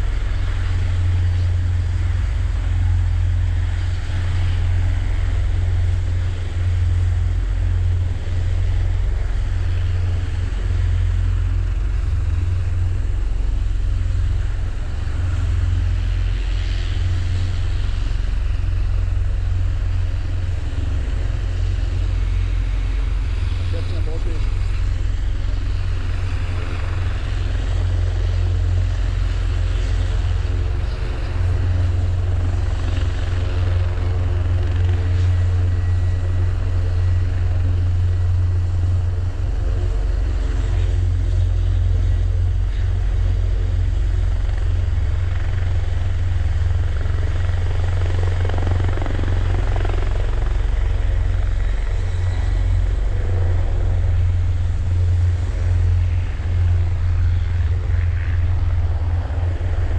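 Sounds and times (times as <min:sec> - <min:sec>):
helicopter rotor beat: 0:00.0 - 0:59.9
helicopter turbine whine: 0:00.0 - 0:59.9.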